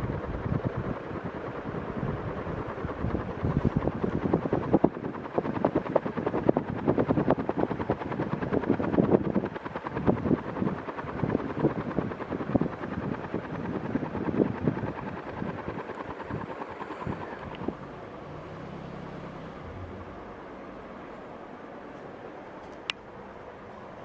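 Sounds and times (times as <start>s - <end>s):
ceiling fan fluttering: 0.0s - 24.0s.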